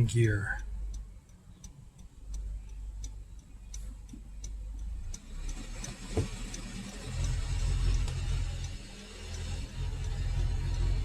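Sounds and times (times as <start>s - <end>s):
car engine uneven rumble: 0.0s - 11.0s
light even ticking: 0.0s - 11.0s.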